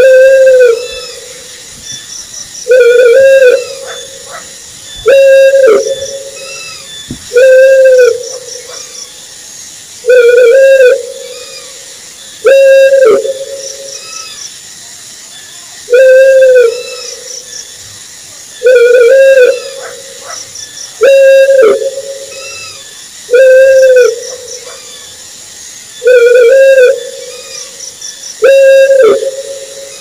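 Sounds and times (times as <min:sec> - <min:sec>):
owl hooting: 0:00.0 - 0:01.5, 0:02.6 - 0:09.0, 0:10.0 - 0:14.4, 0:15.9 - 0:17.3, 0:18.6 - 0:25.2, 0:26.0 - 0:30.0.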